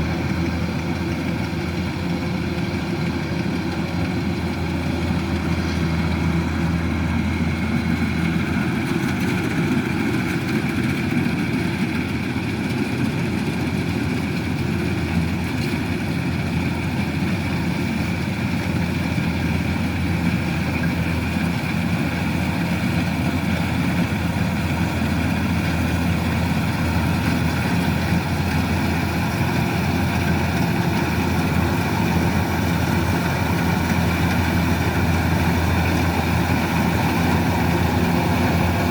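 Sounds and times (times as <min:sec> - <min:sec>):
combine harvester engine droning: 0:00.0 - 0:38.9.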